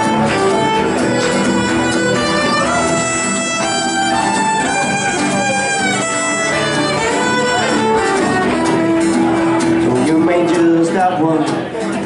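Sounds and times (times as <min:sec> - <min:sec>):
fiddle playing melody: 0:00.0 - 0:10.0
strummed acoustic guitars: 0:00.0 - 0:12.0.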